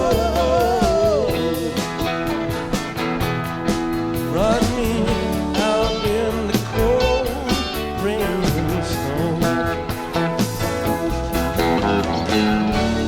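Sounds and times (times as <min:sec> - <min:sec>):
bass guitar: 0:00.0 - 0:13.0
drums: 0:00.0 - 0:13.0
lead electric guitar: 0:00.0 - 0:13.0.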